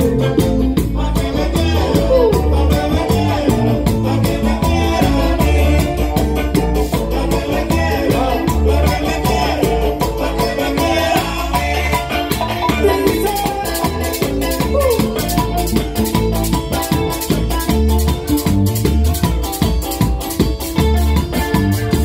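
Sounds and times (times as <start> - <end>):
latin band playing: 0.0 - 22.0
shaken hand percussion rhythm: 0.0 - 22.0.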